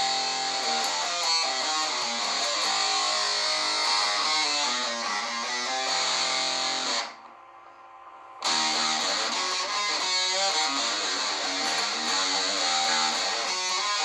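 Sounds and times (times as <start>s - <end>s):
distorted electric guitar riff: 0.0s - 7.2s, 8.4s - 14.0s.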